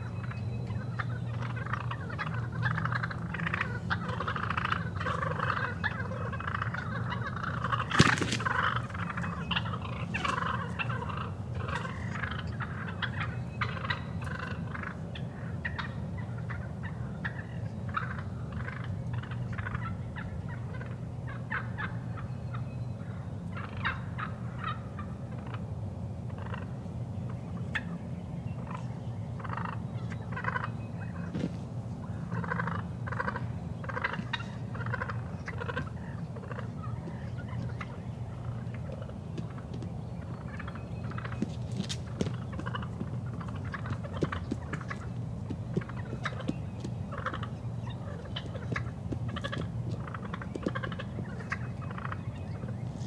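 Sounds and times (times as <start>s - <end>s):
turkeys gobbling: 0.0s - 25.7s, 26.3s - 53.0s.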